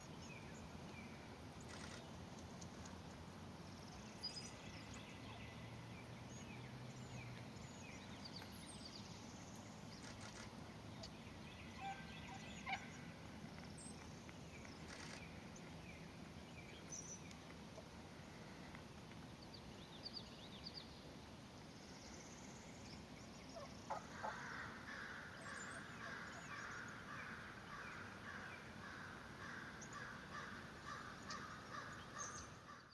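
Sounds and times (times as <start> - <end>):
faint birdsong: 0.0 - 32.9.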